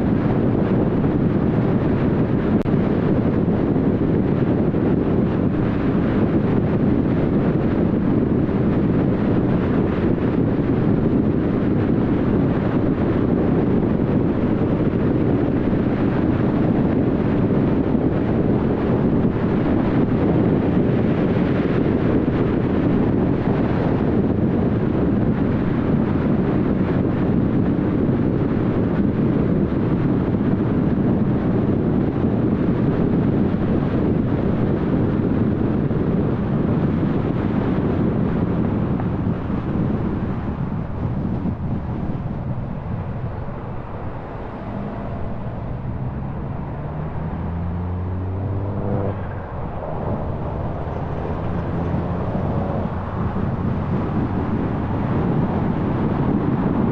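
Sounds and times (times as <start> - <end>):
tyres on road: 0.0 - 56.9
wind noise: 0.0 - 56.9.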